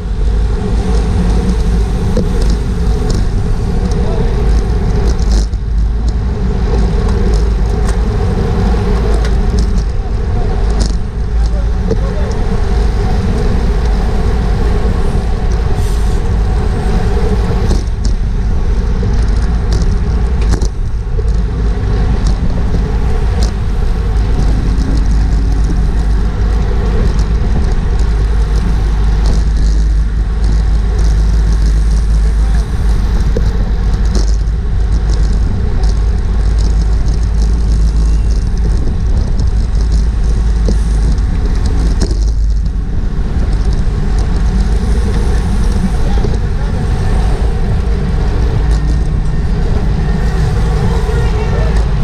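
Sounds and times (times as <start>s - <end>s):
wind buffeting microphone: 0.0s - 52.0s
bicycle clicks: 0.8s - 10.0s, 10.6s - 52.0s.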